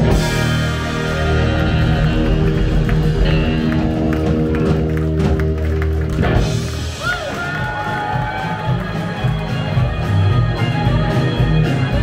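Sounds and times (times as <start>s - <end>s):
rock and roll band playing: 0.0s - 12.0s.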